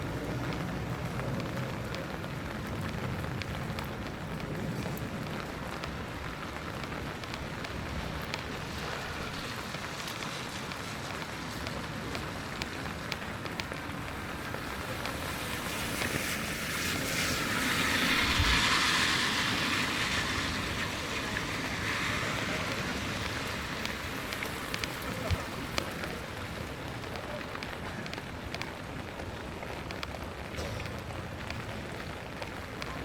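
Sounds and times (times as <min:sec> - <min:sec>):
raindrops ticking: 0:00.0 - 0:33.0
steady rain: 0:00.0 - 0:33.0
vehicle tyres hissing on wet road: 0:00.0 - 0:33.0.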